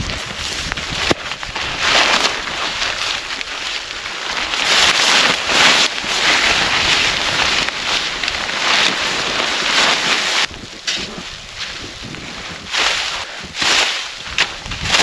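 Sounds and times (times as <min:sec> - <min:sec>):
storm wind gusting: 0:00.0 - 0:15.0.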